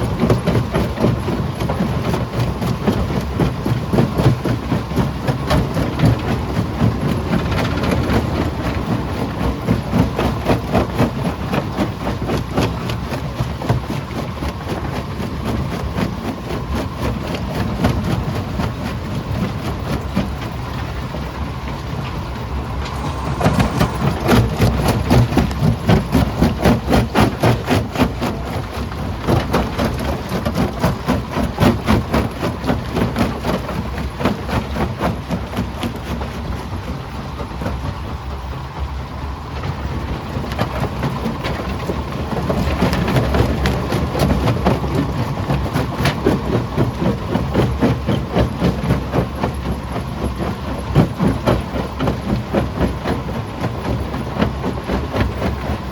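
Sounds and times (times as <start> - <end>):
low machine rumble: 0.0 - 55.9.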